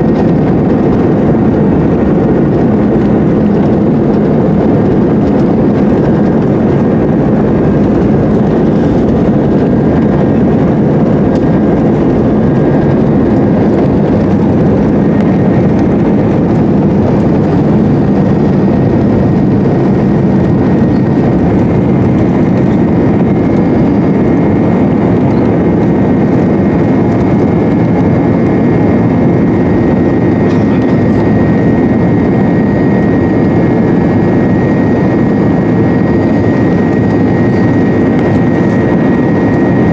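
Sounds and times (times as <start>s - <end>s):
jet engines and airflow roaring: 0.0s - 39.9s.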